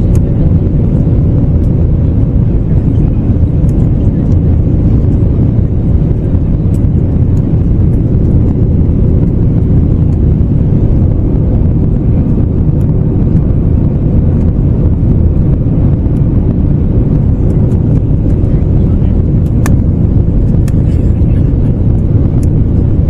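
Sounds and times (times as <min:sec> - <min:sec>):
airliner cabin engine drone: 0:00.0 - 0:23.0
faint steady hum: 0:00.0 - 0:23.0.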